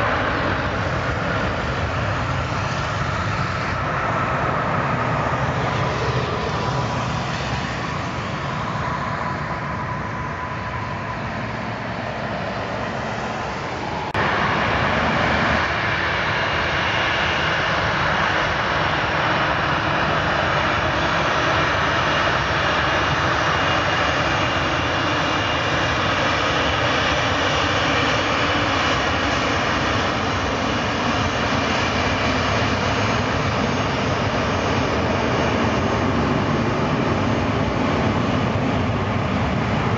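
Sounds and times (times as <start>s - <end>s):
jet engine whine while taxiing: 0.0s - 39.9s
jet engines winding down: 0.0s - 39.9s.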